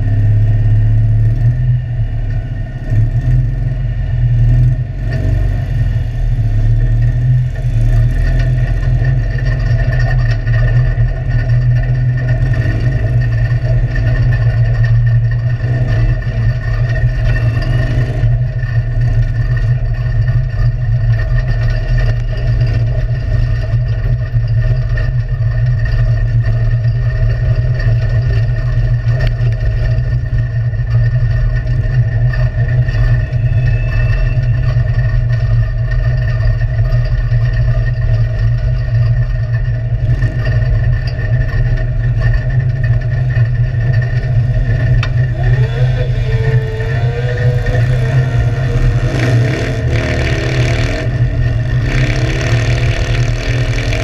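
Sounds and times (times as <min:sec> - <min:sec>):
car engine running: 0:00.0 - 0:54.0
heavy low rumble: 0:00.0 - 0:54.0.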